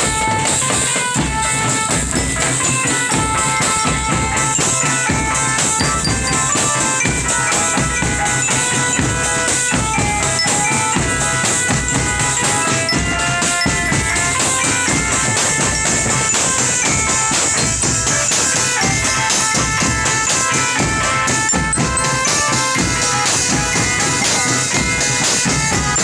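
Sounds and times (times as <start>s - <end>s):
drums beating: 0.0s - 26.0s
melody of held notes: 0.0s - 26.0s.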